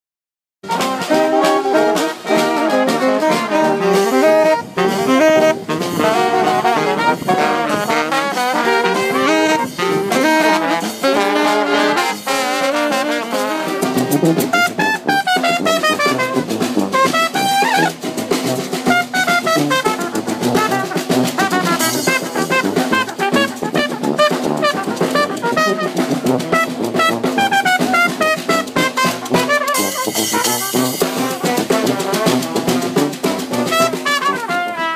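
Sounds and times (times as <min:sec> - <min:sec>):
brass band playing: 0:00.6 - 0:34.9
marching drums and cymbals: 0:00.6 - 0:34.9.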